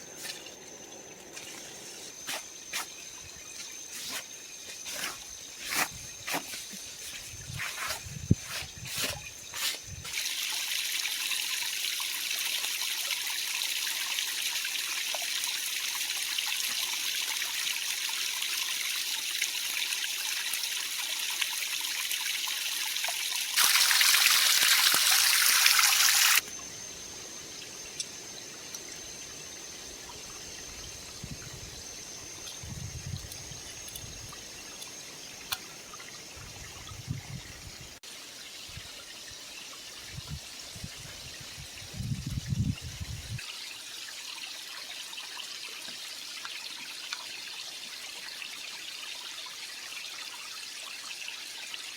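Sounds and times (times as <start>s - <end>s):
creek water trickling: 0.0s - 26.4s, 27.9s - 41.9s, 43.4s - 51.9s.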